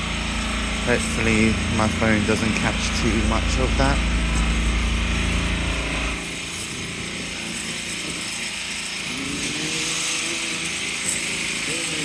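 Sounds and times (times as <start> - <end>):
machinery rattling: 0.0 - 12.0.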